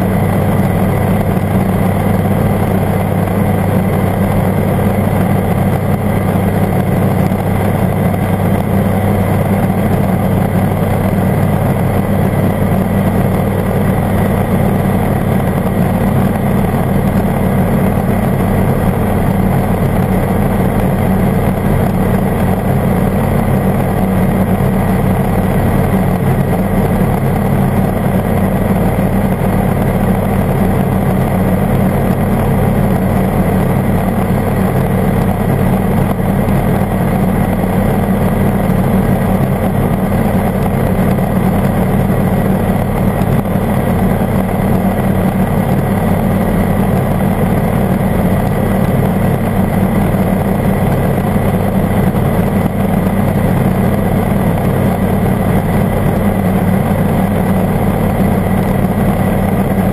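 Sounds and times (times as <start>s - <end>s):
ultralight engine and propeller drone: 0.0s - 59.9s.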